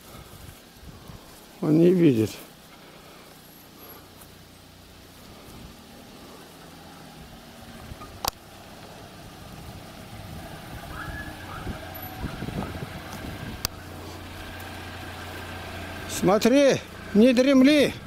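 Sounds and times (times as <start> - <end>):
car driving over grass: 0.0 - 18.0
car engine running low: 0.0 - 18.0.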